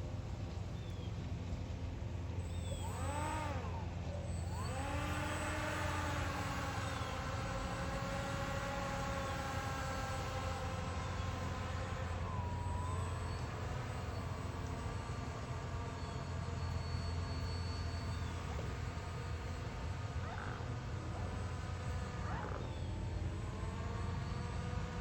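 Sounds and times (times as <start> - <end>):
electric boat motor whining: 0.0 - 25.0.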